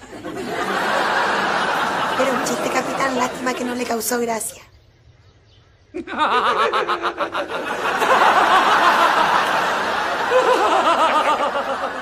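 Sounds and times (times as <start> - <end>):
people laughing: 0.0 - 4.0, 5.9 - 12.0.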